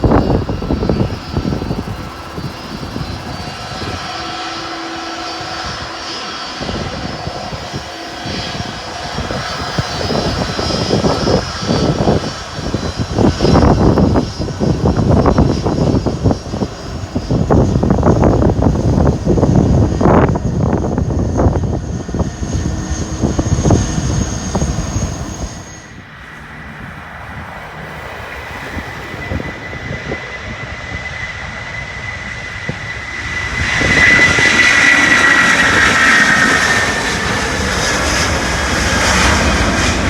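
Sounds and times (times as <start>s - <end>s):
jet engines whining and rumbling: 0.0s - 40.0s.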